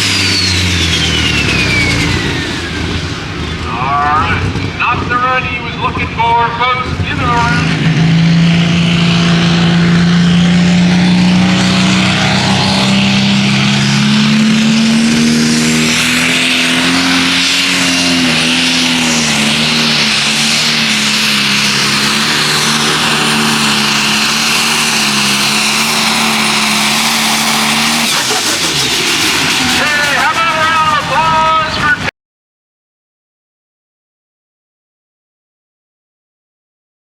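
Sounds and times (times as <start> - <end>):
tractor engine running flat out: 0.0 - 32.1.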